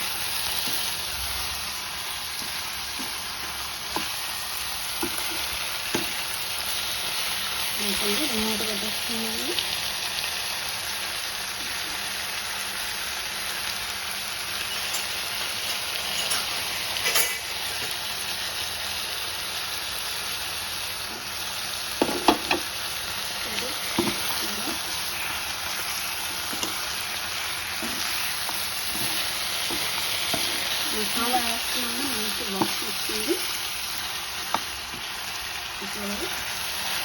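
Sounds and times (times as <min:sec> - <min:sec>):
chicken sizzling in a pan: 0:00.0 - 0:37.0.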